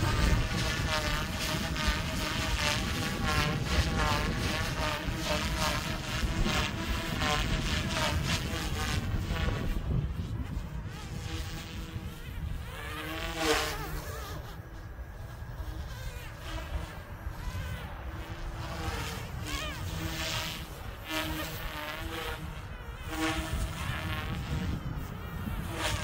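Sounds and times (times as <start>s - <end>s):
rc helicopter buzzing whine: 0.0s - 26.0s
wind rumbling on microphone: 0.0s - 26.0s.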